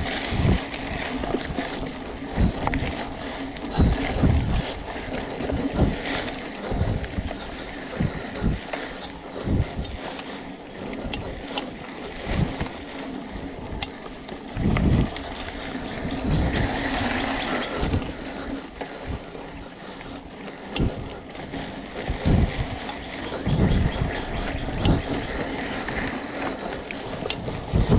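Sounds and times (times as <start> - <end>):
bike rattling clicks: 0.0 - 27.9
tyres rolling rush: 0.0 - 27.9
wind buffeting microphone: 0.0 - 27.9.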